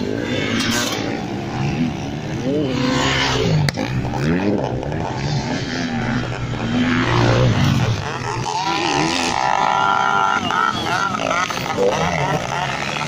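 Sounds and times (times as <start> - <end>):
motorcycles revving past: 0.0 - 13.0.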